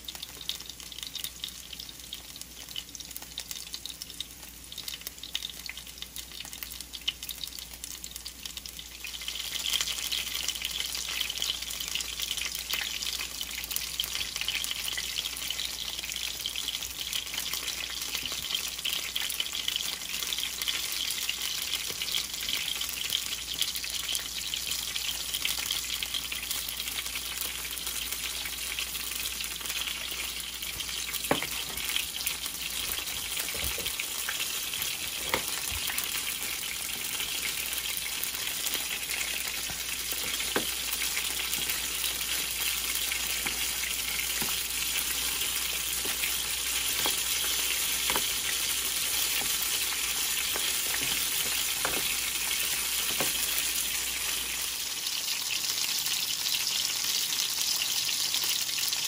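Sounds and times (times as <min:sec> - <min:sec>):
food frying in oil: 0:00.0 - 0:59.0.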